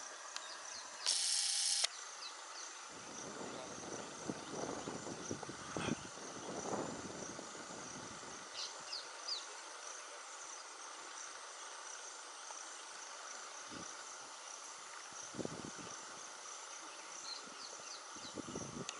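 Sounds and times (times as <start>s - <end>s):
insects droning: 0.0s - 18.9s.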